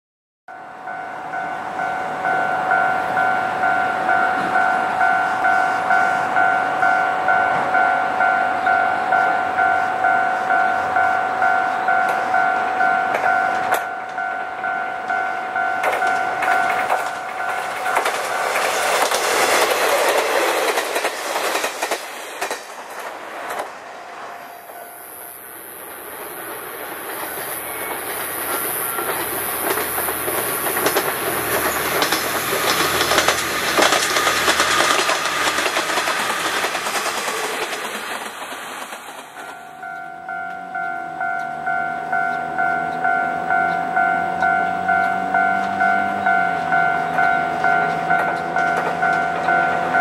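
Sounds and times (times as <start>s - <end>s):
level crossing warning bell: 0.5s - 21.1s, 24.5s - 35.1s, 39.3s - 50.0s
diesel train passing: 0.5s - 50.0s.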